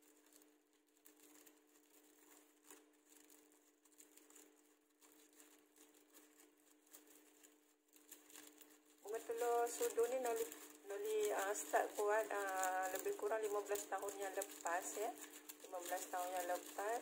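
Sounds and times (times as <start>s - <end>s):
crepe paper crinkling: 0.0s - 17.0s.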